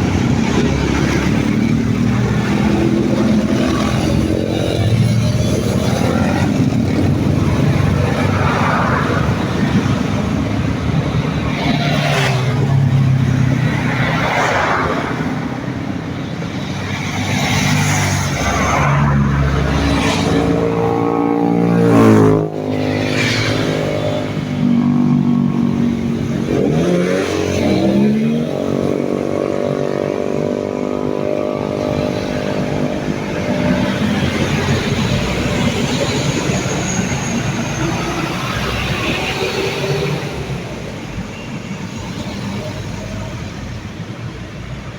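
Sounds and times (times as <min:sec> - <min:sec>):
traffic driving past: 0:00.0 - 0:44.9.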